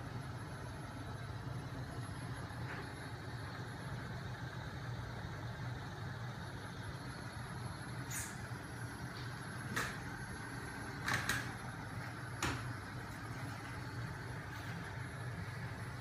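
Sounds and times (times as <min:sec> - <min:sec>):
low mechanical hum of flywheel: 0:00.0 - 0:16.0.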